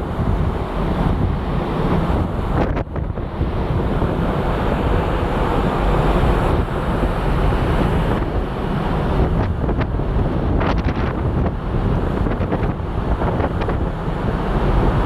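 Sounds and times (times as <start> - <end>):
sea water rushing: 0.0 - 15.0
wind buffeting microphone: 0.0 - 15.0.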